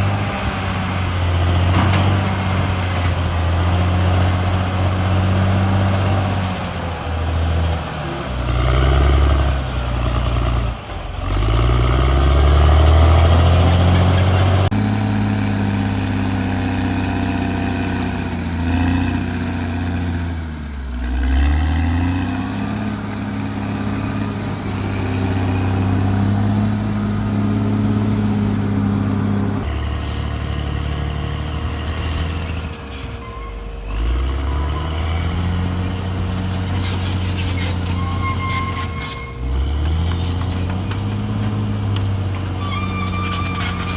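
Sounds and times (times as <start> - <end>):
bulldozer diesel engine running hard: 0.0 - 43.9.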